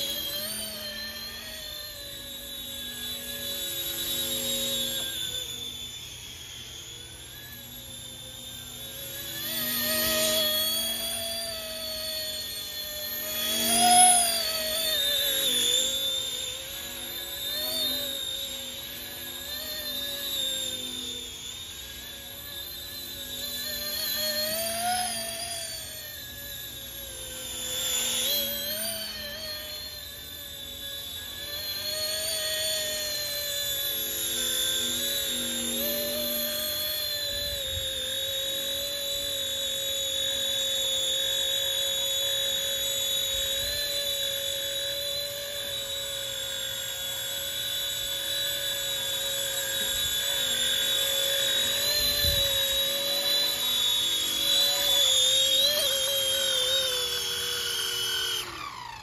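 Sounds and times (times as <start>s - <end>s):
model helicopter rotor whine: 0.0s - 59.0s.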